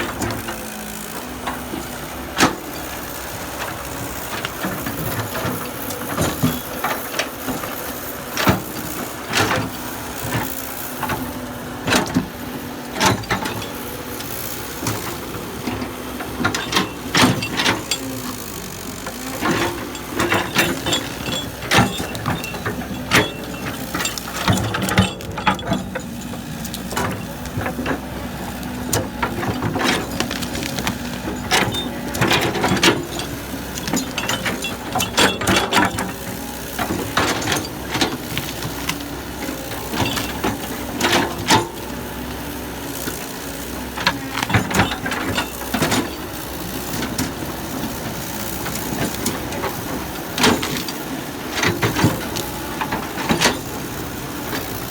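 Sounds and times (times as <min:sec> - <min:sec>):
clanks of metal and rock: 0:00.0 - 0:11.2, 0:12.9 - 0:41.9, 0:43.0 - 0:54.9
machinery engine running: 0:00.0 - 0:54.9.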